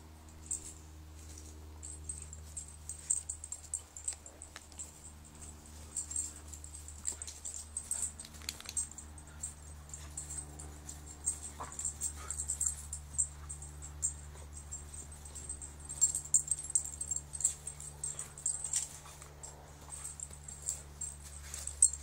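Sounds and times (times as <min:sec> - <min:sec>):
steady low hum: 0:00.0 - 0:22.0
dogs scuffling: 0:00.4 - 0:22.0.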